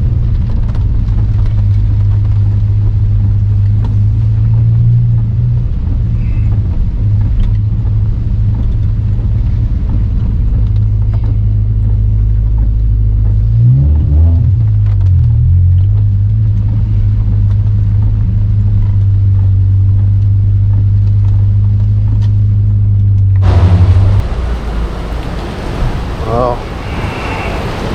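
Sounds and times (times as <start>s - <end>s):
car engine cruising drone: 0.0s - 27.9s.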